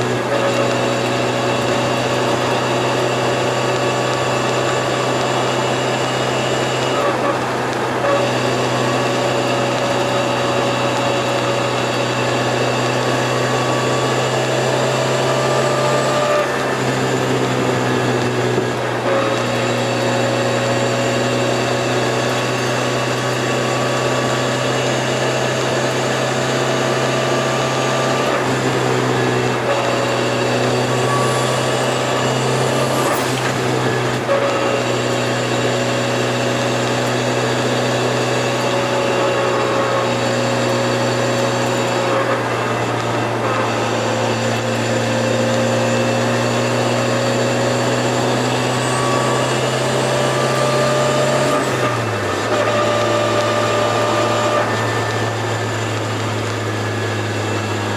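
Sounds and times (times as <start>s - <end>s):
car engine cruising: 0.0s - 57.9s.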